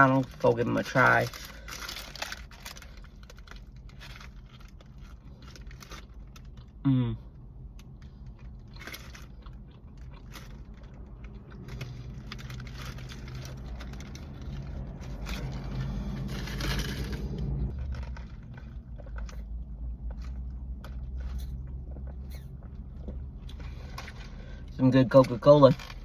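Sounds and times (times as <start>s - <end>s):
small clicks and crunches: 0.1s - 6.8s, 7.7s - 22.4s, 23.0s - 26.0s
chewing sandwich: 0.2s - 24.5s.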